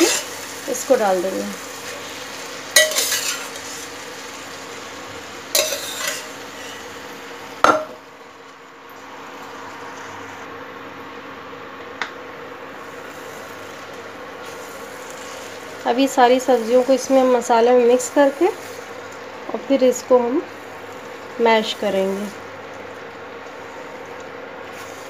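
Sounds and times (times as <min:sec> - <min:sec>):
masala sizzling: 0:00.0 - 0:25.0.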